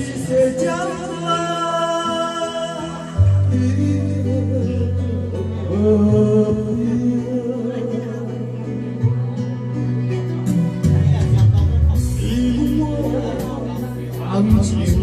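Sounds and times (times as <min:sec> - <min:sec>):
man singing: 0:00.0 - 0:09.3, 0:10.4 - 0:15.0
backing track with bass and guitar: 0:00.0 - 0:15.0.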